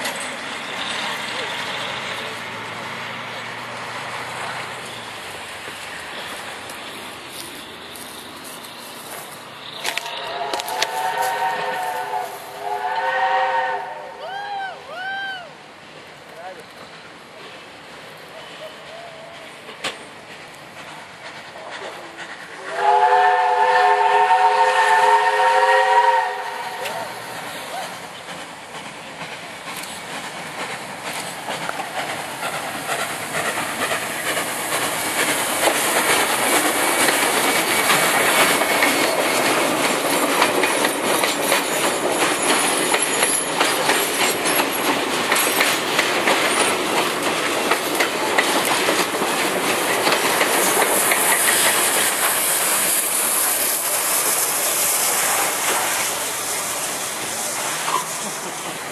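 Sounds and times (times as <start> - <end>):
carriages clattering over rail joints: 0.0 - 12.1, 16.3 - 22.8, 26.8 - 58.9
steam locomotive working hard: 0.0 - 58.9.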